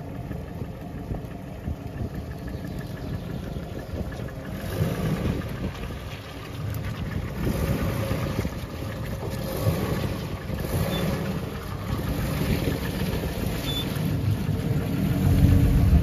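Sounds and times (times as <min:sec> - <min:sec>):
vehicle engine low rumble: 0:00.0 - 0:16.0.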